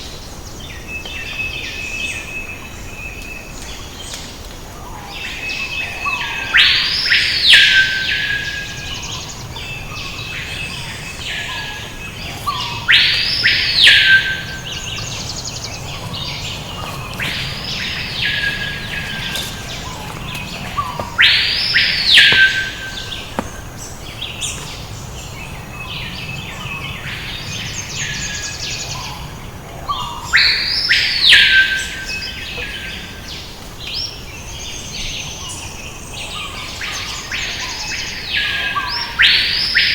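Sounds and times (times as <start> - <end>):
birds chirping faintly: 0.1 - 39.7.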